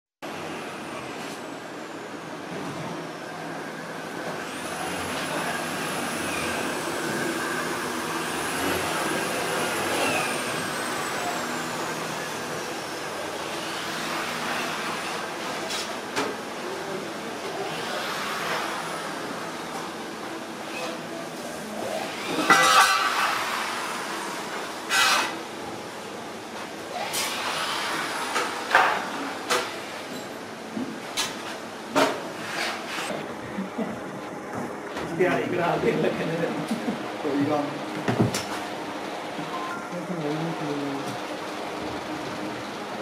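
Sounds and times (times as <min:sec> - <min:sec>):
workshop machinery noise: 0:00.2 - 0:43.0.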